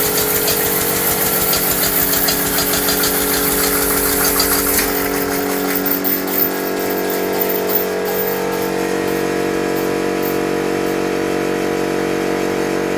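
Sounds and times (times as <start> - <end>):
steam engine humming: 0.0 - 11.2.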